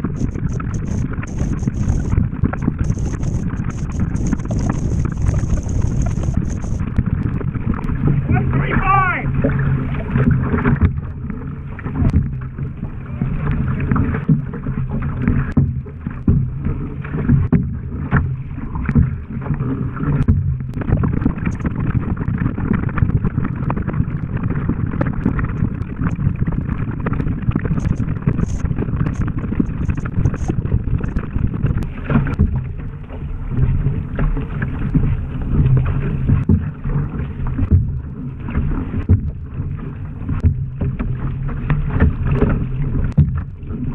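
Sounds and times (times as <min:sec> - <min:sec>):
paddle blades splashing: 0:00.0 - 0:43.9
water slapping against boat hull: 0:00.0 - 0:43.9.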